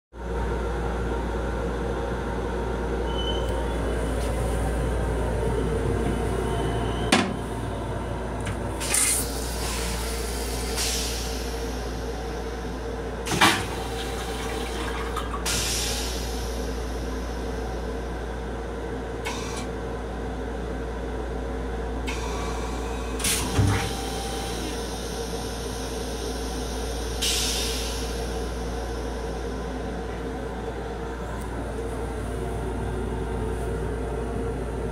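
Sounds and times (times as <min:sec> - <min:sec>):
railcar low rumble: 0:00.1 - 0:34.9.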